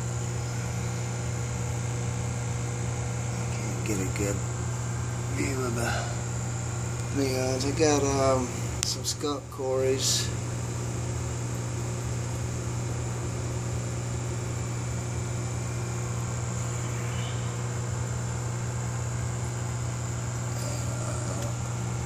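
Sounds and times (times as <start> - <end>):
aquarium pumps humming: 0.0 - 22.0.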